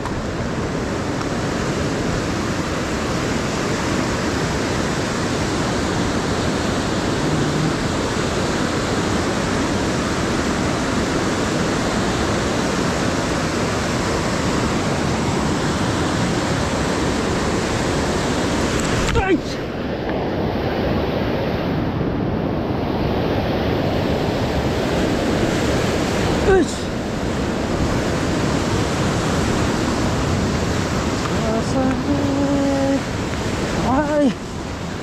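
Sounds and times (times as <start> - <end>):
white-water rapids rushing: 0.0 - 35.0.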